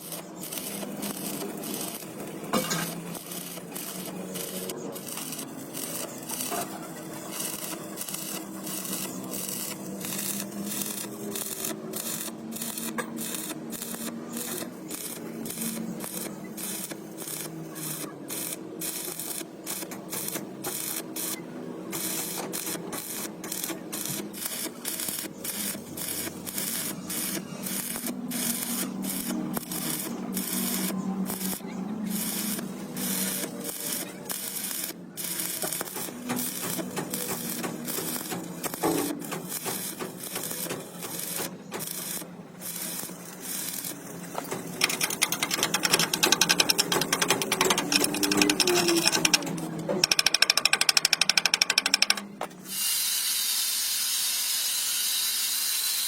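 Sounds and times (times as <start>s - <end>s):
rapid mechanical clicking on metal: 0.0s - 52.5s.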